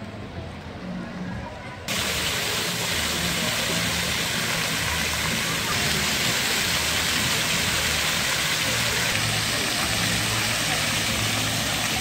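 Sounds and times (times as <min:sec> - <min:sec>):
fountain jets splashing on paving: 0:01.8 - 0:12.0.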